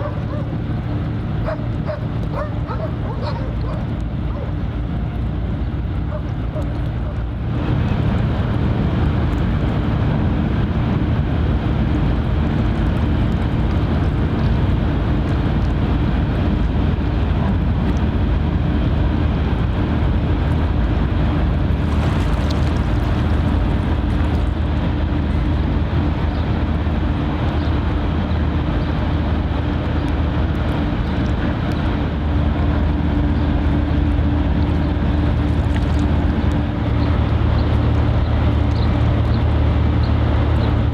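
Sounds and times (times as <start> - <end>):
boat engine droning: 0.0 - 40.9
wind and water rushing: 0.0 - 40.9.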